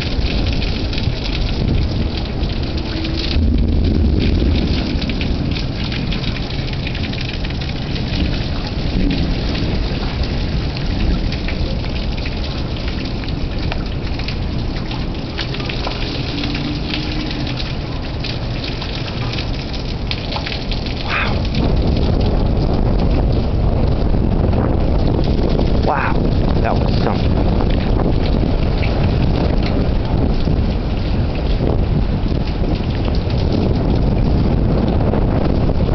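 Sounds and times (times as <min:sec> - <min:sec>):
heavy rain pouring: 0:00.0 - 0:35.9
raindrops striking close by: 0:00.0 - 0:35.9
thunder rumbling: 0:00.0 - 0:35.9.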